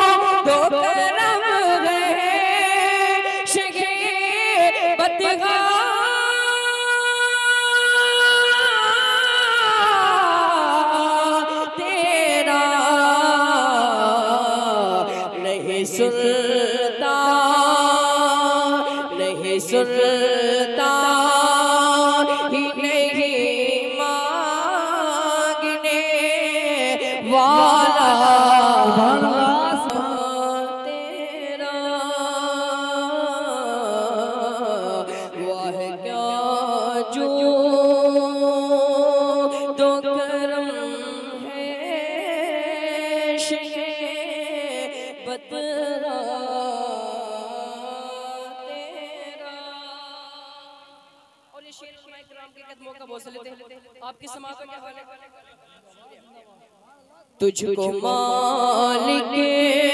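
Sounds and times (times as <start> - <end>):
person singing devotional chant: 0.0 - 59.9.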